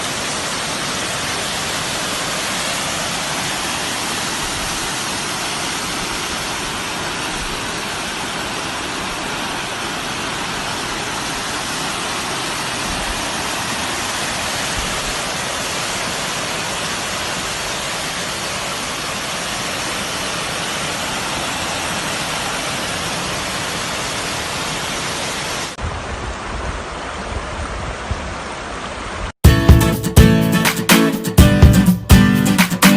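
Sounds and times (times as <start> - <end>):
flowing water rushing: 0.0 - 29.4.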